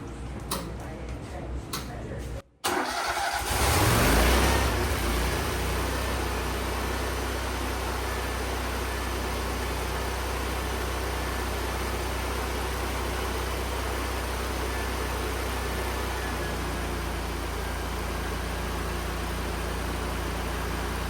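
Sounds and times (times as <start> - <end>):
engine humming steadily: 3.4 - 21.0.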